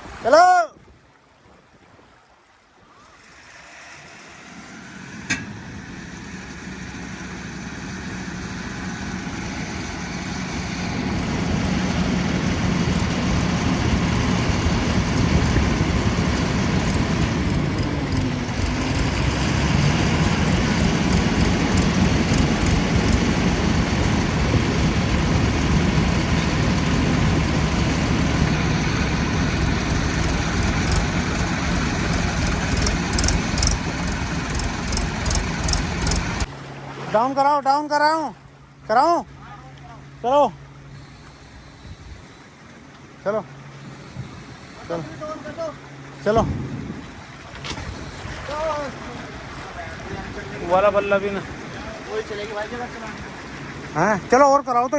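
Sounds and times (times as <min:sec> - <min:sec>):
heavy vehicle engine under load: 0:03.1 - 0:37.3, 0:38.0 - 0:54.9.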